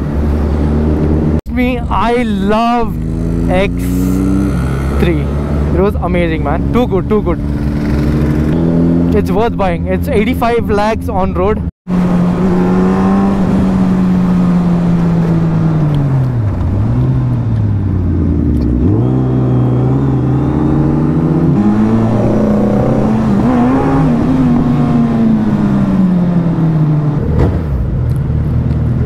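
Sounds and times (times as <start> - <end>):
motorcycle engine: 0.0 - 29.0.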